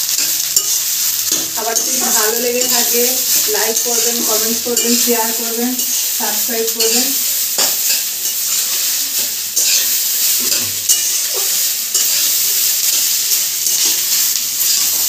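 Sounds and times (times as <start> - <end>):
rice sizzling in a wok: 0.0 - 15.0
metal spatula scraping pan: 0.2 - 15.0.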